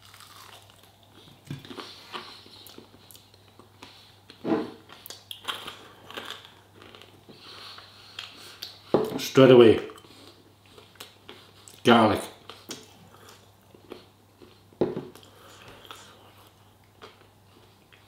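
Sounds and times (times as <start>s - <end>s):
man chewing food: 0.0s - 9.0s, 9.9s - 11.8s, 12.4s - 18.0s.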